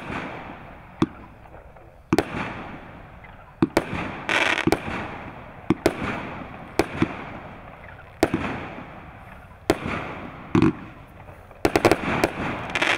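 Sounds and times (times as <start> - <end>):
fireworks bangs with echo: 0.0 - 12.9.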